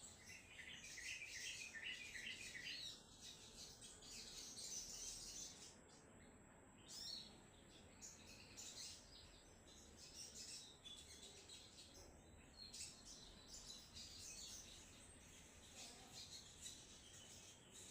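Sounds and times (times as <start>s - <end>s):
songbird chattering song: 0.0s - 17.9s.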